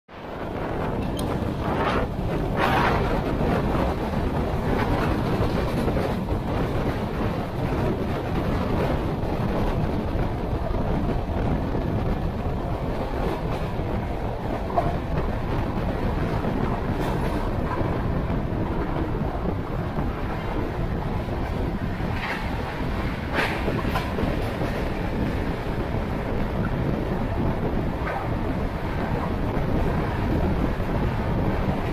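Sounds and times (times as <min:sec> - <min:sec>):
wind rushing: 0:00.1 - 0:31.9
train wheels clattering on rails: 0:00.5 - 0:31.9.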